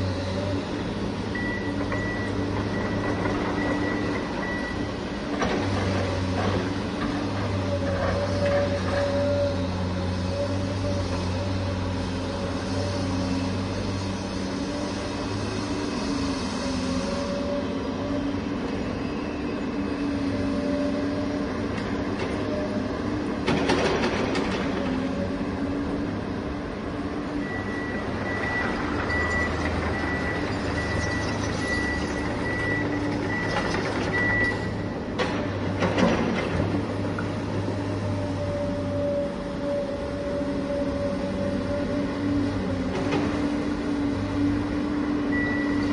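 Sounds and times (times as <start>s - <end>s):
hydraulic motor and pump hum: 0.0s - 45.9s.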